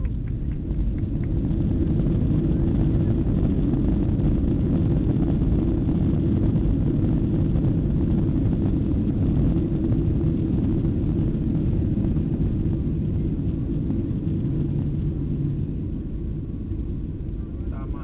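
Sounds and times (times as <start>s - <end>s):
airplane cabin rumble on runway: 0.0s - 18.0s.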